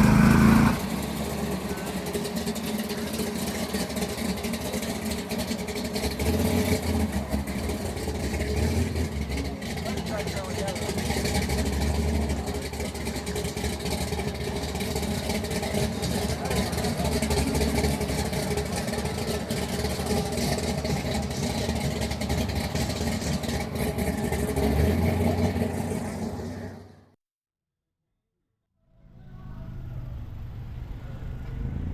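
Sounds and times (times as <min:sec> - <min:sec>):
car engine running: 0:00.0 - 0:27.2.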